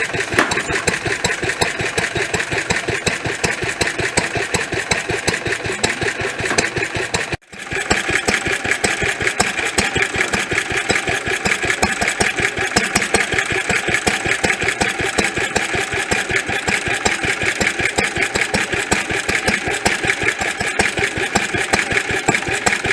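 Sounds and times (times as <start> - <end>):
stationary engine running: 0.0 - 22.9.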